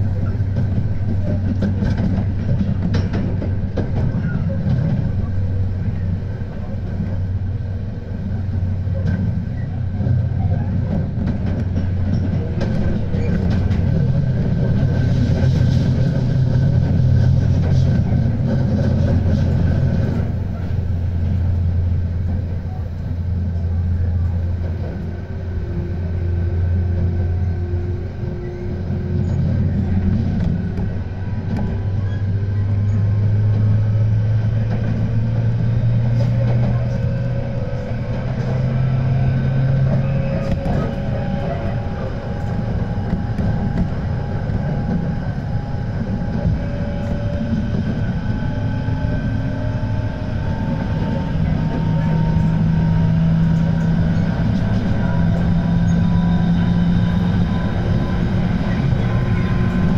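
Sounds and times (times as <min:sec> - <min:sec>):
wheels rumbling on rail: 0:00.0 - 0:59.9
train motor whine: 0:11.2 - 0:59.9.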